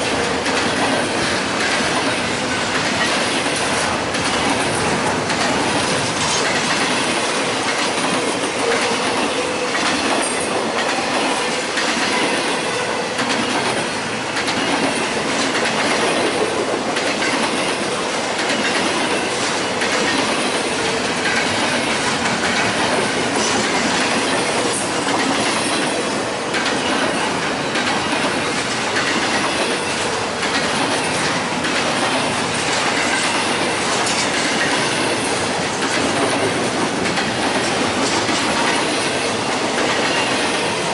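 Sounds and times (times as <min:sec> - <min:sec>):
train wheels rolling on rails: 0:00.0 - 0:40.9.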